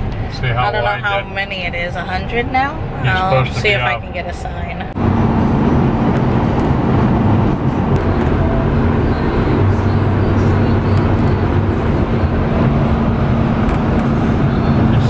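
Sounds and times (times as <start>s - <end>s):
road noise: 0.0s - 15.0s
truck engine droning: 0.0s - 15.0s.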